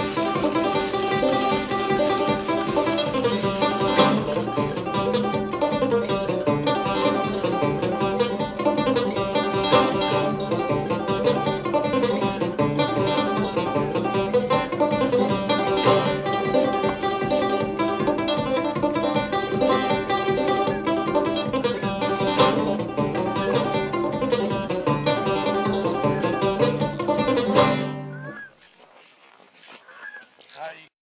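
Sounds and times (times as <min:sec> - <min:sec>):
upbeat bluegrass banjo tune: 0:00.0 - 0:28.4
guitar: 0:00.0 - 0:28.5.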